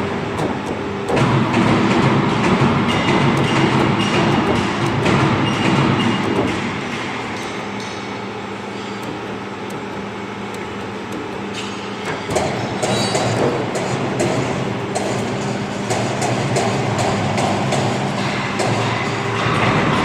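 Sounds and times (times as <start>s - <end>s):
hydraulic pump hum: 0.0s - 20.0s
mechanical rumble: 0.0s - 20.0s.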